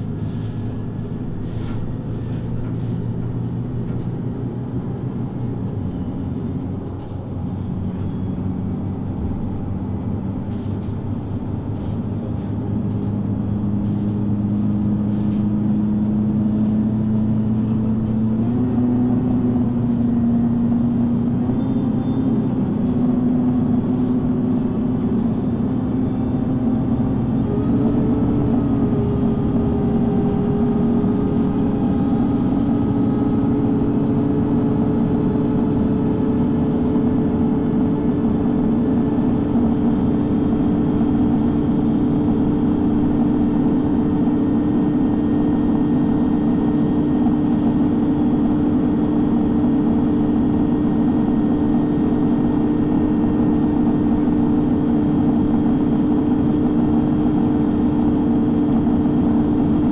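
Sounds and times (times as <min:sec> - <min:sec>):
bus engine and drivetrain hum: 0:00.0 - 0:59.9
constant whine: 0:00.0 - 0:59.9.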